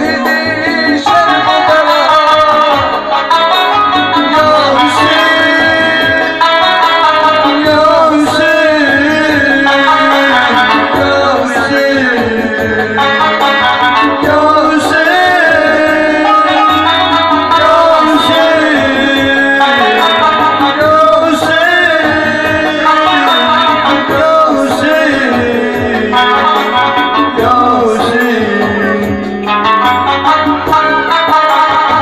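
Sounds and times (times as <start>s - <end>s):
electronic keyboard melody: 0.0s - 32.0s
steady drum rhythm: 0.0s - 32.0s.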